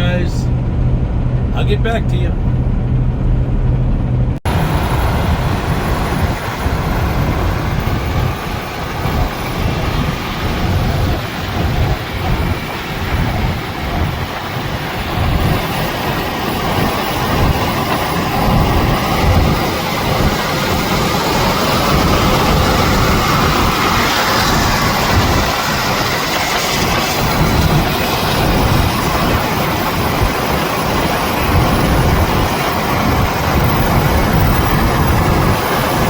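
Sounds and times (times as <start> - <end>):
truck road and wind noise: 0.0 - 36.0.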